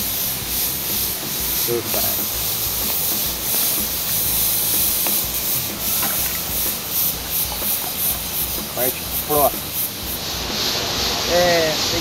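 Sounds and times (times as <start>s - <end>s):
loud hiss: 0.0s - 12.0s.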